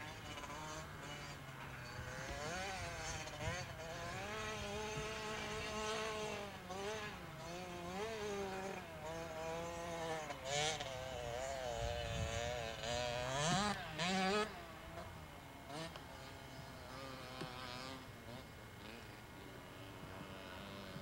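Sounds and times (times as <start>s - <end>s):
distant dirt bike engine revving: 0.0s - 21.0s.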